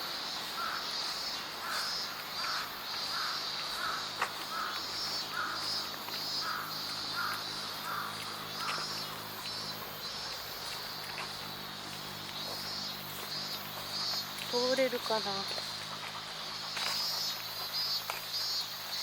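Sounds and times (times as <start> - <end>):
cicadas singing: 0.0 - 19.0.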